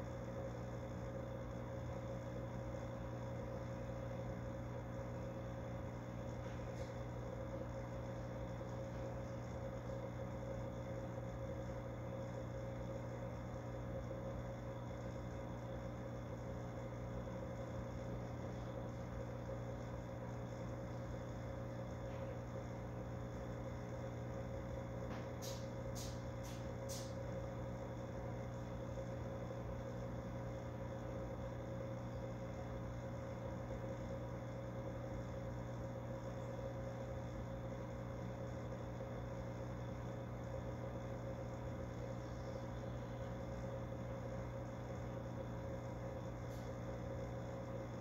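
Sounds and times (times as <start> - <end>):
fish tank equipment hum: 0.0 - 48.0.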